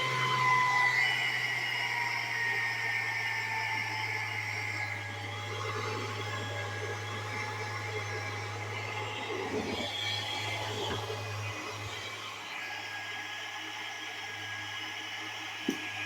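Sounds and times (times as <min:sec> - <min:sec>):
pump motor humming and whining: 0:00.0 - 0:16.0.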